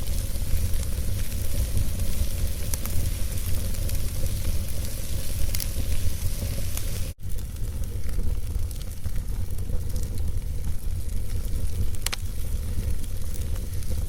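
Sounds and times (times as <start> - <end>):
sharp pops of fire: 0.0 - 14.0
wood fire crackling: 0.0 - 14.0.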